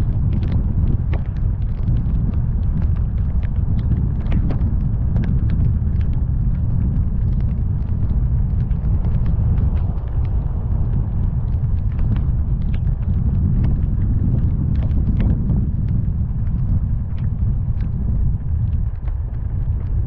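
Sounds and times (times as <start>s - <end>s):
raindrops ticking on car: 0.0s - 20.0s
road and wind rumble: 0.0s - 20.0s.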